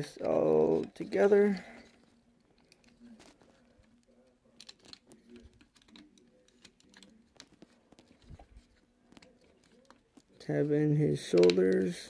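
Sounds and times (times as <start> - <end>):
plastic toy parts clicking: 0.1 - 8.4, 9.1 - 10.4, 11.2 - 12.0.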